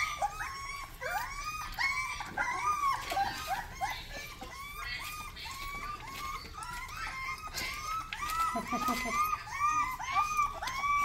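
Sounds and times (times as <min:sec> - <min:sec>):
puppies whimpering: 0:00.0 - 0:11.0.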